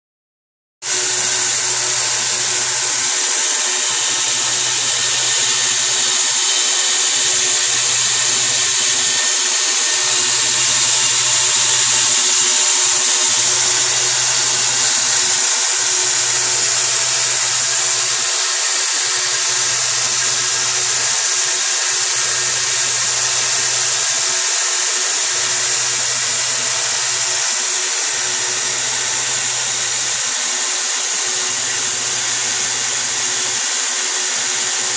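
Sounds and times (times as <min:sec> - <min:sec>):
belt grinder whirring: 0:00.8 - 0:34.9.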